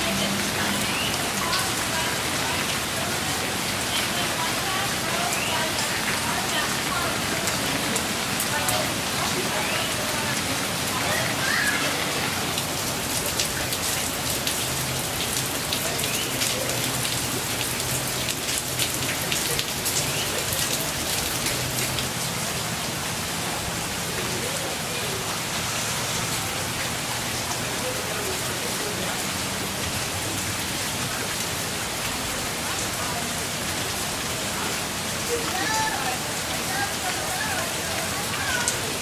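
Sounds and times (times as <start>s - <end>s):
heavy rain splashing into water: 0.0s - 39.0s.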